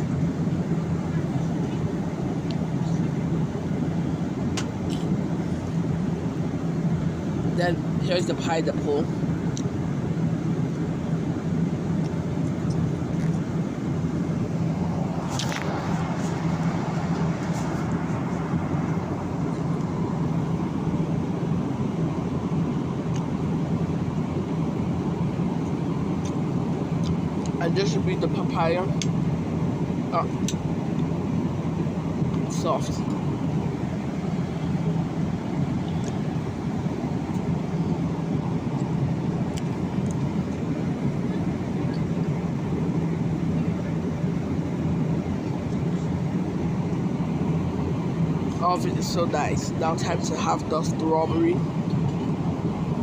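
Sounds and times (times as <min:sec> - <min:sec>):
jet cabin rushing drone: 0:00.0 - 0:53.0
low hum: 0:00.0 - 0:53.0.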